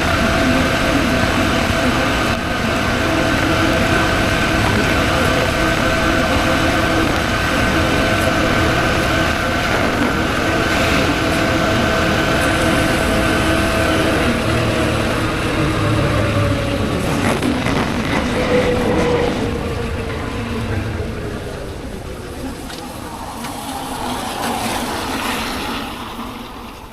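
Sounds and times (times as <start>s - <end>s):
road and wind noise: 0.0s - 26.9s.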